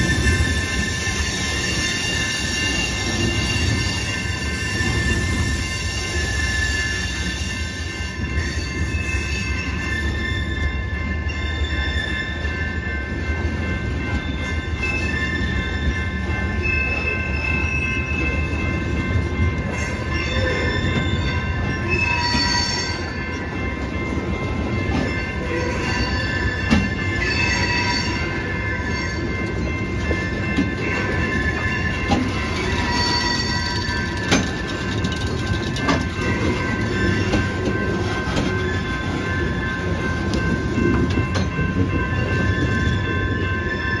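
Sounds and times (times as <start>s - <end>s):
train wheels squealing: 0.0s - 13.0s, 14.0s - 18.8s, 19.6s - 23.5s, 24.9s - 29.8s, 30.5s - 39.2s, 41.2s - 44.0s.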